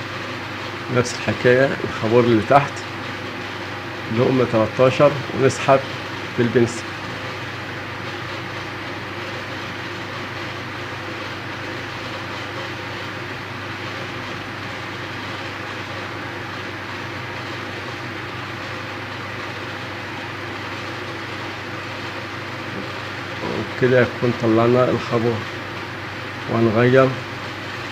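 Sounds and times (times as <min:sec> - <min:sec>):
steady hum and hiss: 0:00.0 - 0:27.9.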